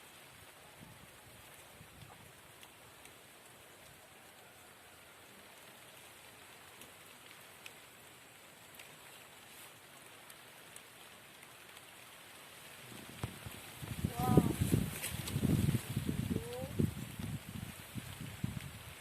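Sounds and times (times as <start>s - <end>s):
rain falling: 0.0s - 19.0s
raindrop ticks: 0.0s - 19.0s.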